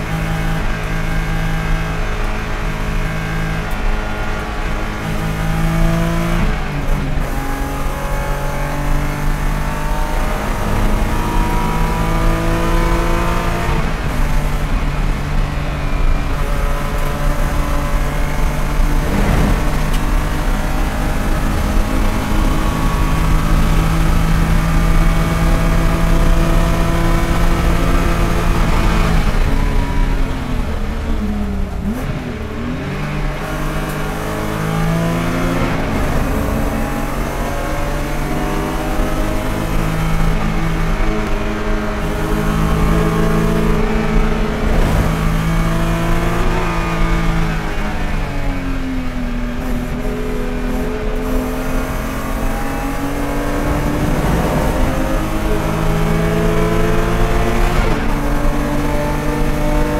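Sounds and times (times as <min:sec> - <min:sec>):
race car engine at full throttle: 0:00.0 - 0:59.9.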